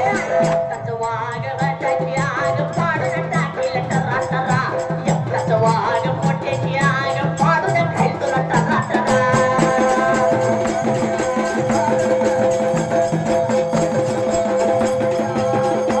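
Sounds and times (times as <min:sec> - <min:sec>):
fast drum beat: 0:00.0 - 0:16.0
jingling percussion: 0:00.0 - 0:16.0.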